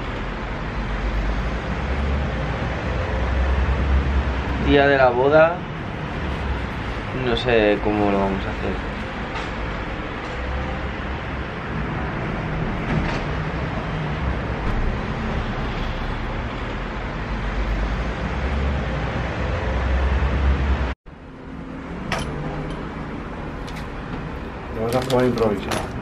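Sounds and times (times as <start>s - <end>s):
heavy low rumble: 0.8s - 24.9s.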